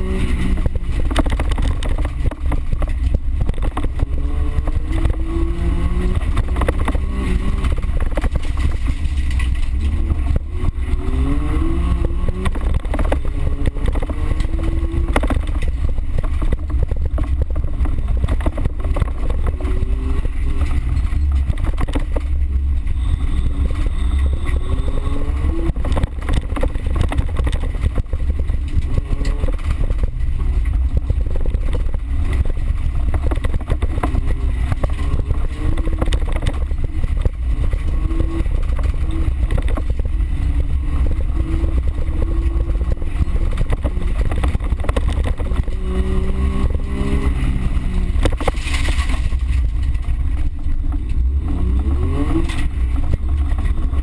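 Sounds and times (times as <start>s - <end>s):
low rumble from rough ground: 0.0s - 54.0s
small car engine revving: 0.0s - 54.0s.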